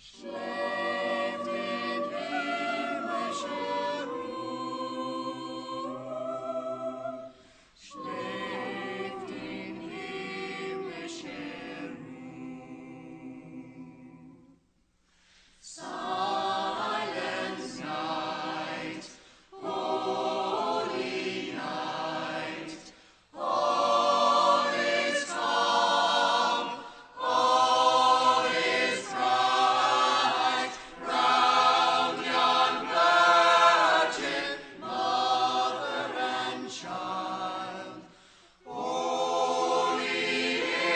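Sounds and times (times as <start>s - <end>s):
choir singing unaccompanied: 0.0s - 14.6s, 15.6s - 40.9s.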